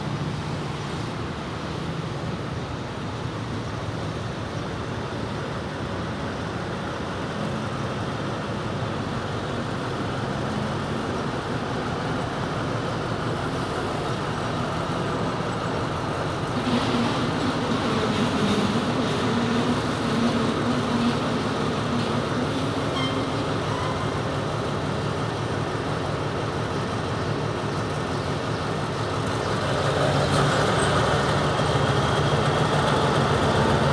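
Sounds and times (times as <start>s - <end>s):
diesel locomotive engine running: 0.0s - 33.9s.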